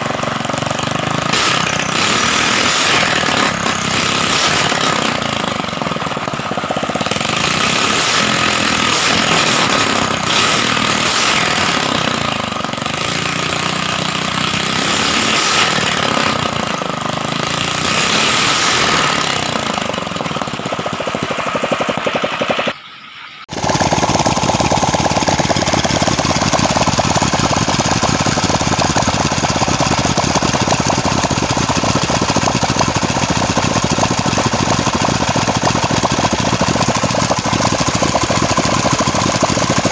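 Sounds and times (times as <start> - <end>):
boat engine running loudly: 0.0 - 22.8, 23.5 - 39.9.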